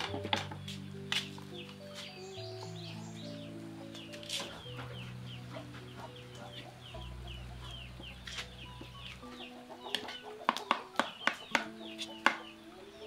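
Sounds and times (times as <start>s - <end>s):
chickens peeping and clucking: 0.0s - 13.0s.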